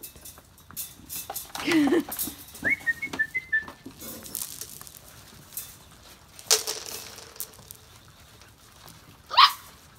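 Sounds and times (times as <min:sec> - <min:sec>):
paws clicking on concrete: 0:00.0 - 0:09.9
puppies scuffling: 0:00.0 - 0:09.9.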